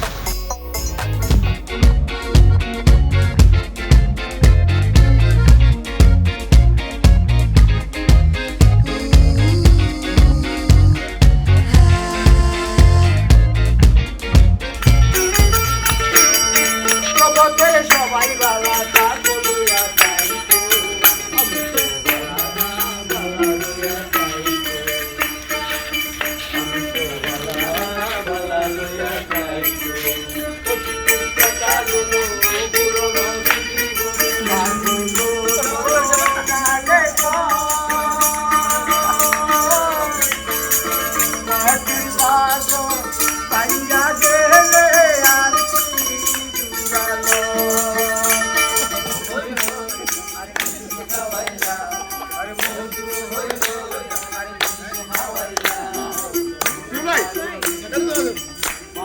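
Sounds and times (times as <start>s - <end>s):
melody over jingling percussion: 0.0s - 59.0s.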